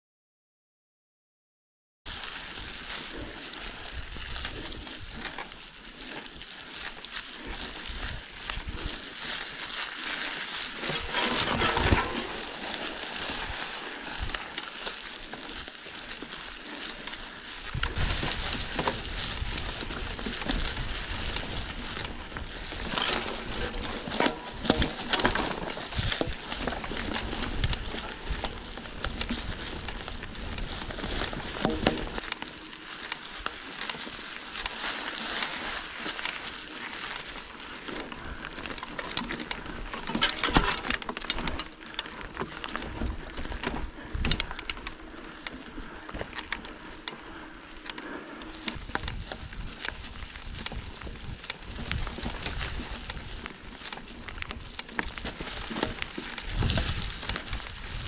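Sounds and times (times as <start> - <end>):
bicycle clicks and rattles: 2.1 - 58.0
bicycle tyres rolling: 2.1 - 58.0.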